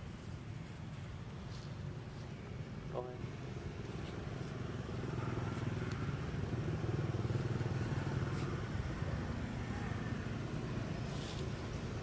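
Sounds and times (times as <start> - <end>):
engine low drone: 0.0 - 12.0.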